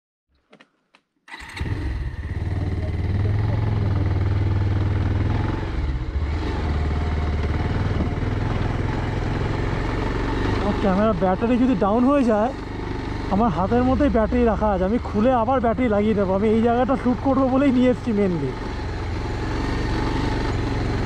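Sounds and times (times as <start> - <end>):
motorcycle engine running: 1.3 - 21.0.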